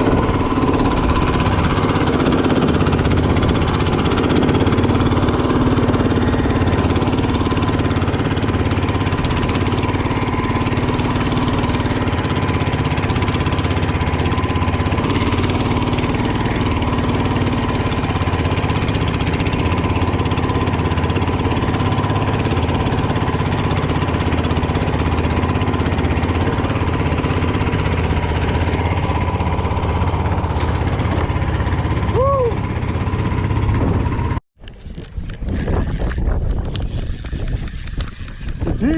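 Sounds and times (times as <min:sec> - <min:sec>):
boat engine droning: 0:00.0 - 0:38.9.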